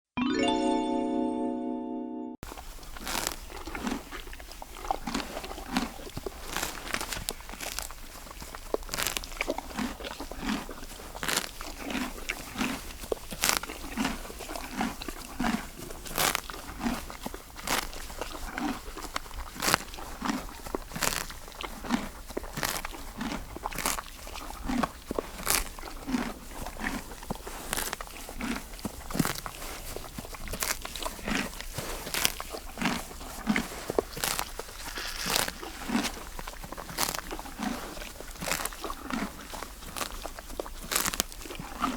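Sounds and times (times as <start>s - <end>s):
horse chewing grass: 2.4s - 41.9s.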